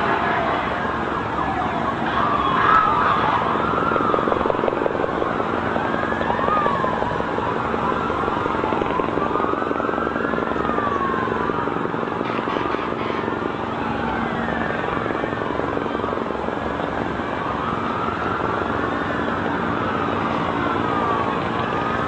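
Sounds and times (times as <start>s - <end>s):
city noise rumble: 0.0s - 22.0s
emergency sirens wailing: 0.0s - 22.0s.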